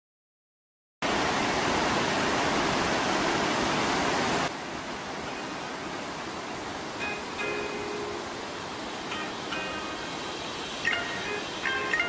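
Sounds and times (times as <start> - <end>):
stream rushing over stones: 1.0 - 12.0.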